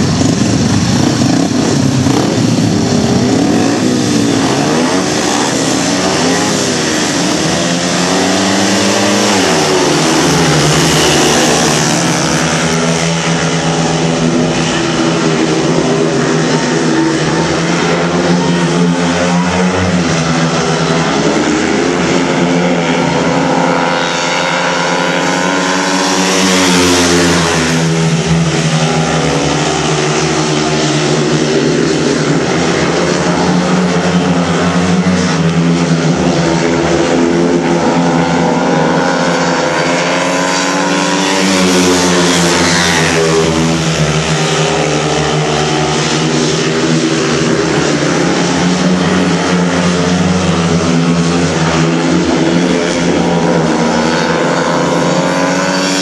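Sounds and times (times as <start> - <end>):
motorcycle engines racing: 0.0 - 56.0.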